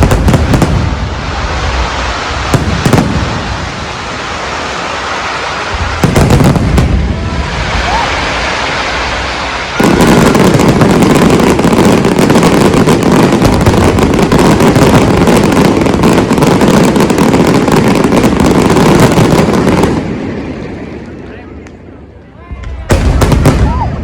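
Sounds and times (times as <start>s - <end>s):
fireworks crackling bursts: 0.0s - 24.0s.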